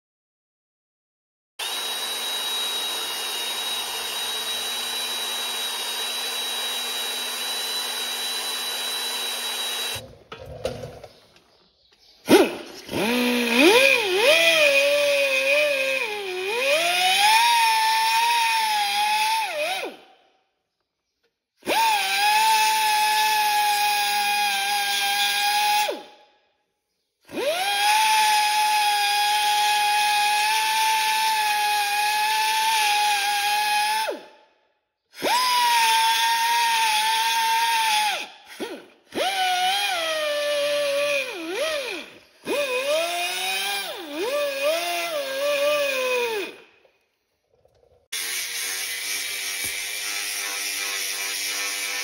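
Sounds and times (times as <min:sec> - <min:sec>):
die grinder whining: 0:01.6 - 0:11.2, 0:12.3 - 0:20.0, 0:21.6 - 0:26.1, 0:27.3 - 0:34.2, 0:35.1 - 0:46.9, 0:47.5 - 0:52.0.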